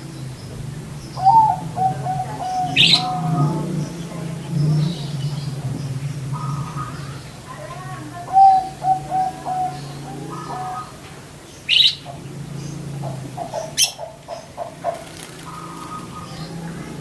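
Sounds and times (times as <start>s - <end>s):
steady low hum: 0.0s - 17.0s
budgerigars chirping: 0.1s - 7.5s, 8.2s - 17.0s.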